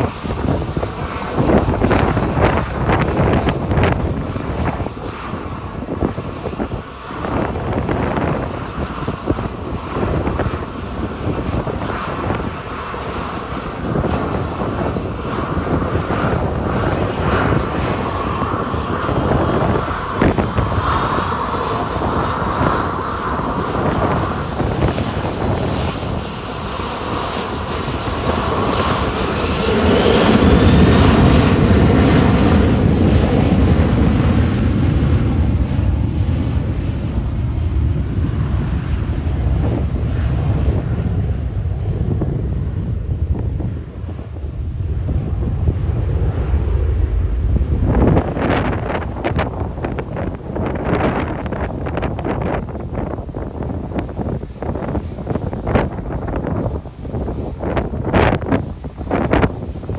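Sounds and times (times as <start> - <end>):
jet engine whine: 0.0 - 59.9
jet low rumble: 0.0 - 59.9
wind buffeting microphone: 0.0 - 59.9.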